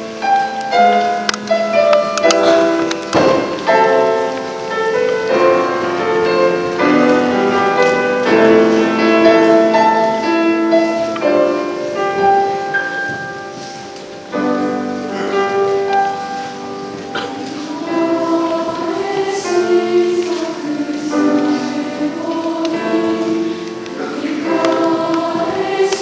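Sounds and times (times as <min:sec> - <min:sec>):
piano playing sustained chords: 0:00.0 - 0:26.0.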